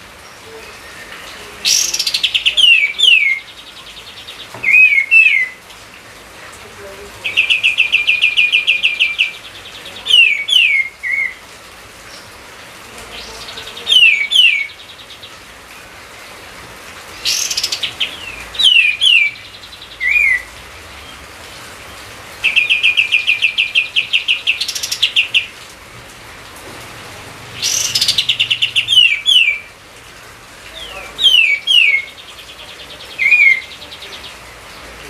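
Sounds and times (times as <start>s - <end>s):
songbird singing: 0.0s - 25.8s, 27.5s - 35.0s.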